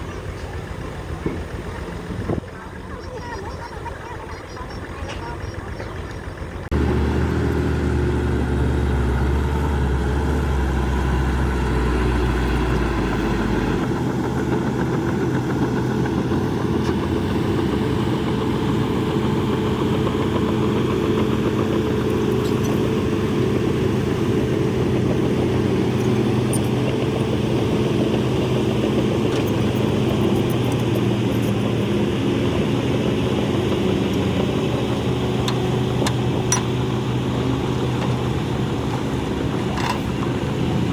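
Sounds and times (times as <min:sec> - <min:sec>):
bulldozer diesel engine rumbling: 0:00.0 - 0:40.9.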